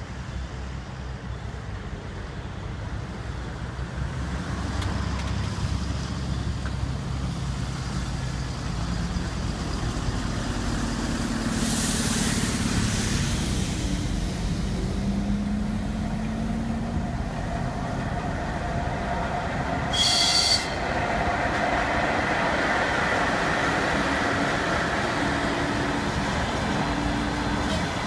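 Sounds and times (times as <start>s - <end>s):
electric train rumble and hum: 0.0s - 28.0s.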